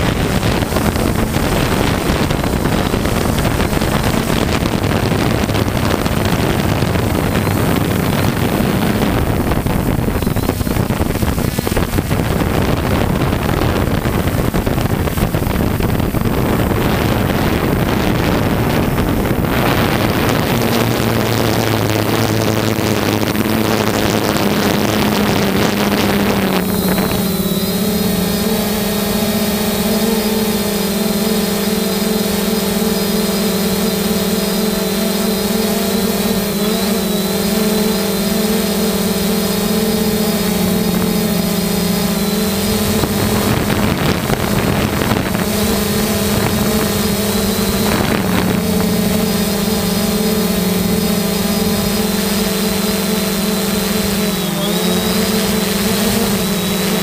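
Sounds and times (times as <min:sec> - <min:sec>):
quadcopter propellers humming: 0:00.0 - 0:57.0
wind noise on microphone: 0:00.0 - 0:57.0.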